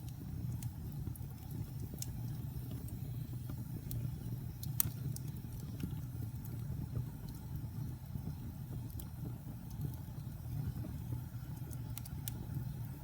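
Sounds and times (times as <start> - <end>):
log fire crackling and popping: 0.0 - 13.0.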